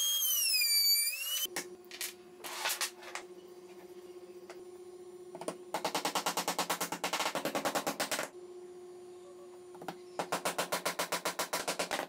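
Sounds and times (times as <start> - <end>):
faint hum: 0.0 - 6.9, 8.0 - 11.1.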